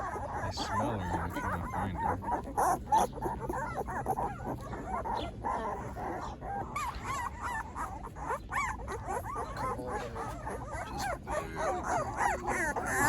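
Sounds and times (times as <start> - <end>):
puppies whimpering and squeaking: 0.0 - 13.0.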